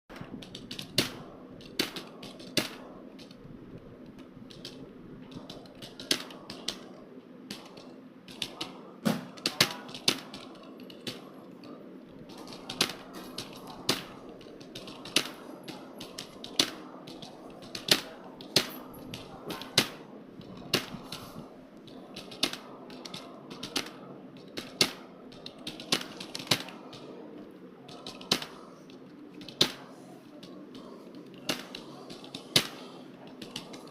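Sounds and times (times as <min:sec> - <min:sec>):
faint steady hum: 0:00.1 - 0:33.9
keyboard keys clicking: 0:00.1 - 0:33.9.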